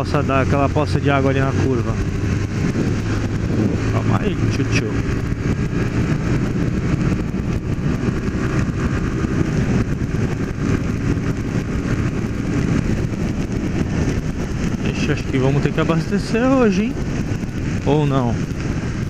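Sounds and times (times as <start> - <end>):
motorcycle engine running: 0.0 - 19.0
wind rush: 0.0 - 19.0.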